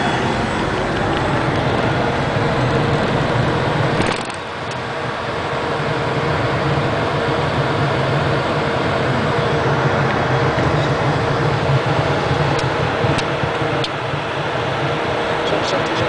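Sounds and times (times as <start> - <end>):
jet engines humming: 0.0 - 16.0.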